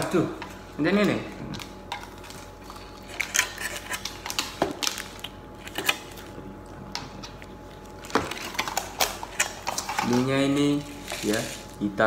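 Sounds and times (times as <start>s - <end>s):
plastic sachets crinkling and tearing: 0.8s - 6.3s, 7.2s - 12.0s.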